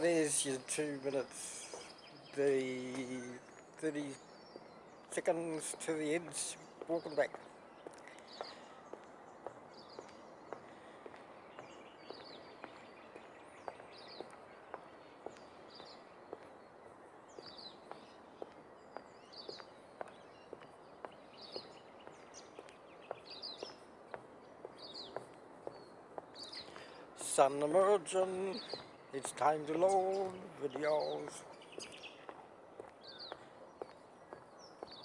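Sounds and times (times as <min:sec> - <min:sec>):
bird chirping: 0:00.0 - 0:35.0
footsteps on a path: 0:00.0 - 0:35.0.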